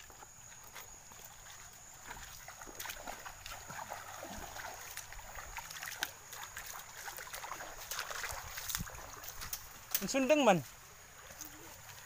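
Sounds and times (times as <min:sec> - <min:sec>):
footsteps wading through stream: 0:00.0 - 0:12.0
water splashing: 0:00.0 - 0:12.0
water trickling: 0:00.0 - 0:12.0.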